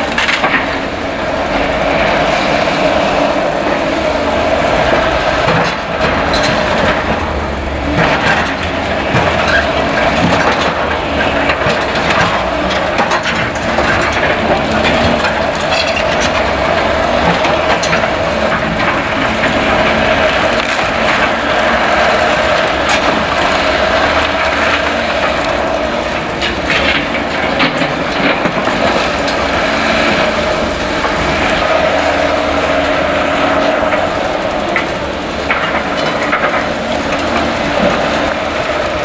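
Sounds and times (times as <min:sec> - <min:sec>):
excavator diesel engines whining: 0:00.0 - 0:39.0
rubble and timber clanking: 0:00.0 - 0:39.0.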